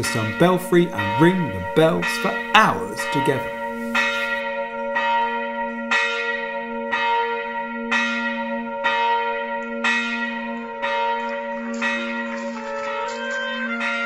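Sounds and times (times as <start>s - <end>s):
church bell ringing: 0.0s - 14.0s.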